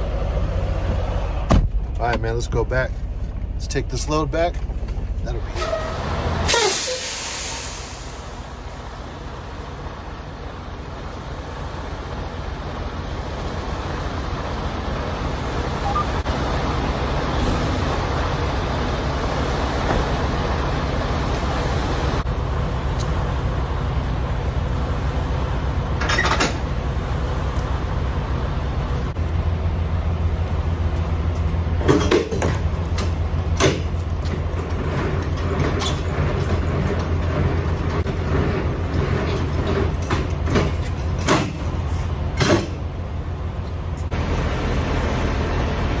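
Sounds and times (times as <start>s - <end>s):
diesel truck engine humming: 0.0s - 46.0s.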